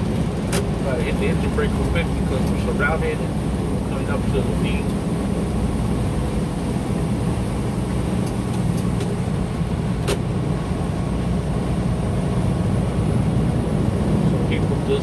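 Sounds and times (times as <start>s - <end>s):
diesel truck engine drone: 0.0s - 15.0s
road noise inside cab: 0.0s - 15.0s.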